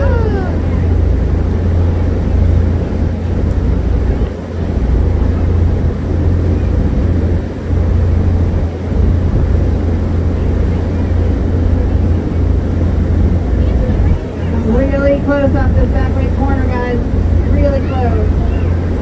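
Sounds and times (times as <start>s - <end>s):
boat engine rumble: 0.0s - 19.0s
wind noise on microphone: 0.0s - 19.0s.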